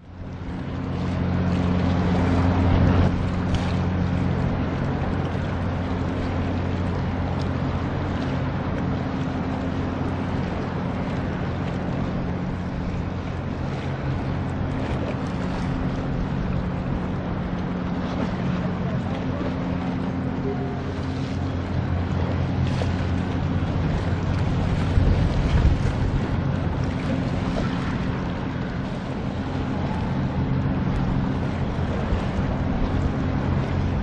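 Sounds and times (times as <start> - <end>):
ship diesel engine drone: 0.0 - 34.0
wind and water hiss: 0.0 - 34.0.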